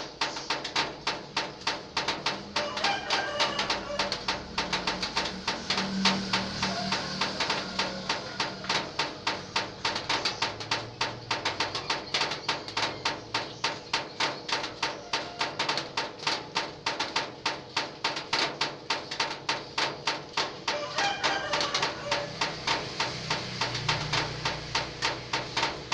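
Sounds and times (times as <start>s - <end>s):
rain dripping on metal roof: 0.0s - 25.9s.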